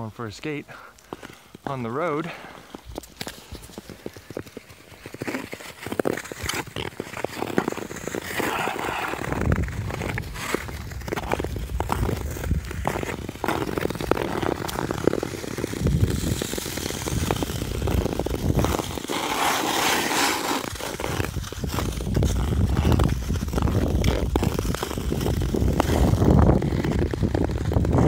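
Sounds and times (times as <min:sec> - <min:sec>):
skate wheels rolling on asphalt: 0:00.7 - 0:28.0.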